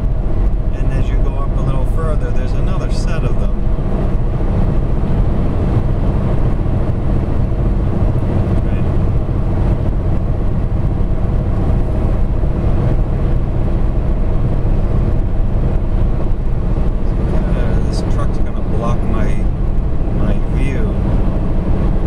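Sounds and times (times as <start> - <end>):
car interior road rumble: 0.0 - 22.0.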